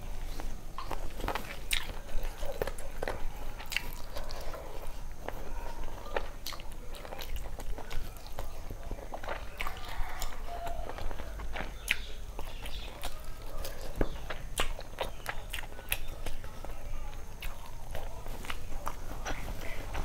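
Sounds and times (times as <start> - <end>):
person chewing with mouth clicks: 0.0 - 20.0.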